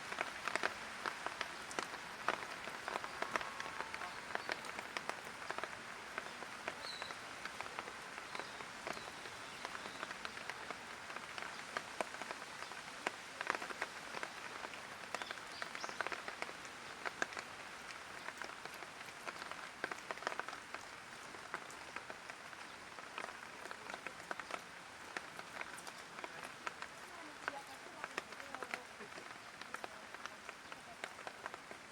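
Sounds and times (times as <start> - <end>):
light rain patter: 0.0 - 31.9.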